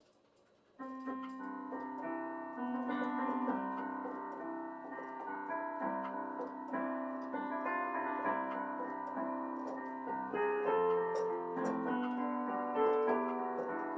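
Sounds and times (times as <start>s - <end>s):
gentle piano melody: 0.8s - 13.9s.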